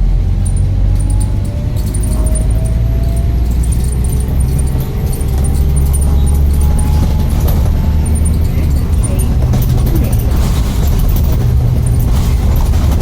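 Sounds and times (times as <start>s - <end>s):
vehicle engine rumbling: 0.0s - 13.0s
light rattling: 0.2s - 13.0s.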